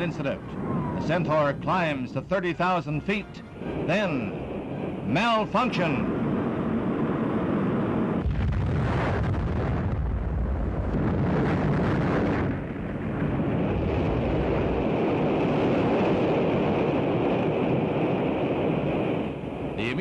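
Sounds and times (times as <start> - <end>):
rocket explosion roar: 3.5 - 19.8.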